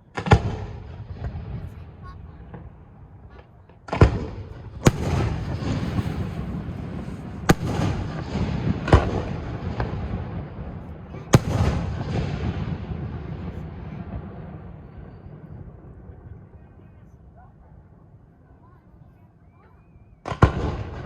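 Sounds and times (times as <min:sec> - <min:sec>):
fireworks bangs: 0:00.0 - 0:16.5, 0:20.2 - 0:21.0.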